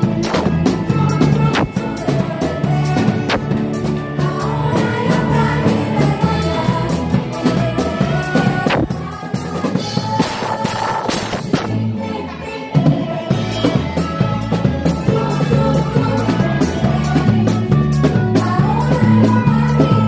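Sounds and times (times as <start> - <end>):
children's song over loudspeaker: 0.0 - 20.0.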